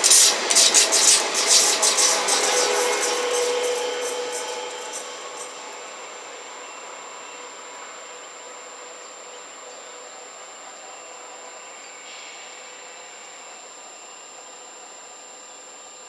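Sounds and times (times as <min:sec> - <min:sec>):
train rolling along track: 0:00.0 - 0:13.0.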